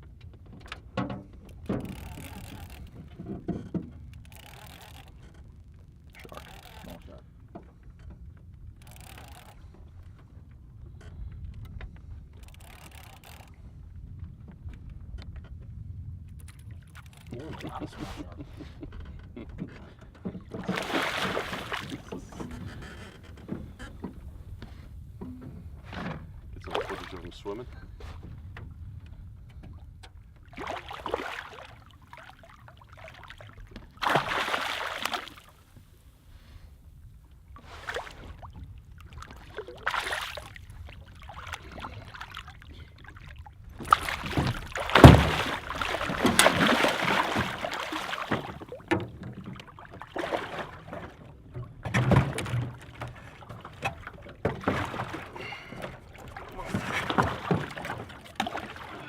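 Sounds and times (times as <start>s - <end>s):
water splashing against boat: 0.0s - 59.0s.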